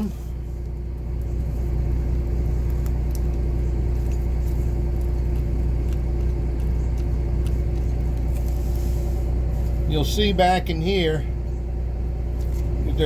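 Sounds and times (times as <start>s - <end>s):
engine idling drone: 0.0s - 13.0s.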